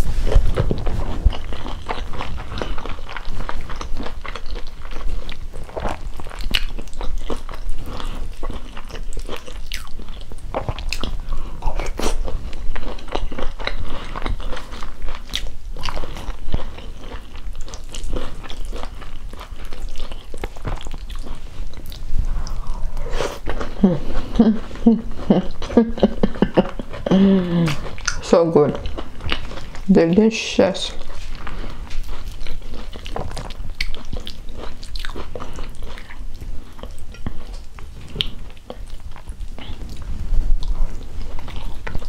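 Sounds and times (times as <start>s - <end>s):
chewing and mouth sounds: 0.0s - 42.0s.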